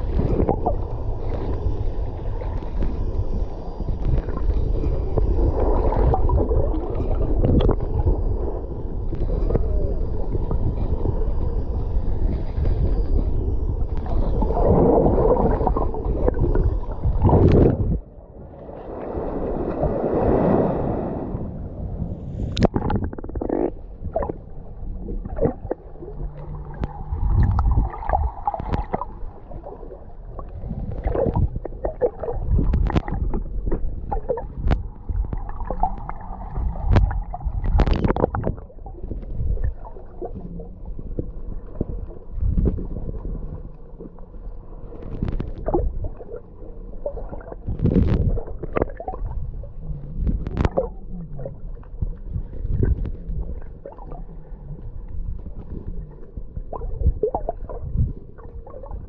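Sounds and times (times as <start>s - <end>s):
sea water sloshing and gurgling: 0.0s - 59.0s.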